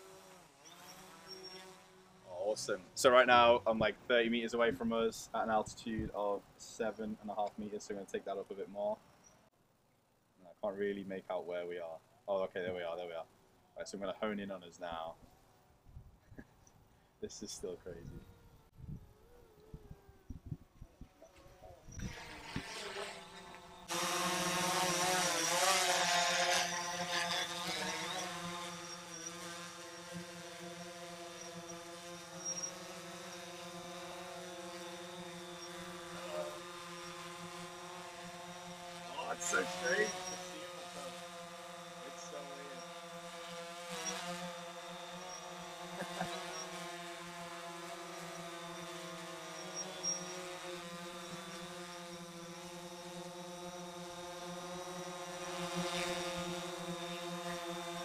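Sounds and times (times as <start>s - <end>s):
quadcopter propellers buzzing: 0.0s - 9.5s, 17.2s - 58.0s.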